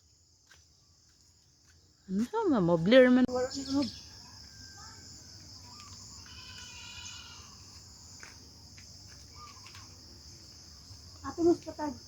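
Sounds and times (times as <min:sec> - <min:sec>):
insects trilling in chorus: 0:00.0 - 0:12.0.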